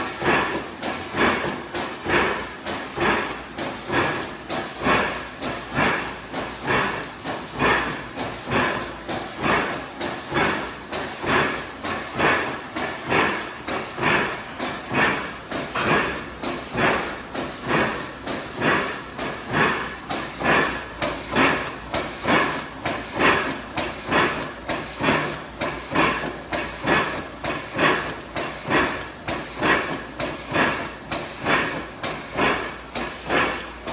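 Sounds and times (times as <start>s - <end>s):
machine hissing: 0.0s - 33.9s.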